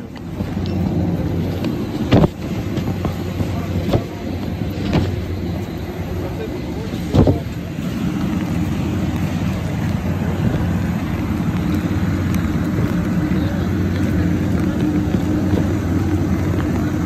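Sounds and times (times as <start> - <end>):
machinery humming drone: 0.0 - 17.0.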